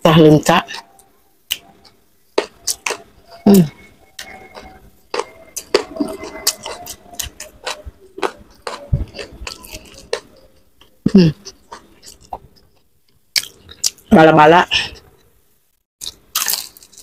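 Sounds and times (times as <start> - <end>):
person chewing crunchy berries: 0.7 - 14.1, 16.0 - 17.0.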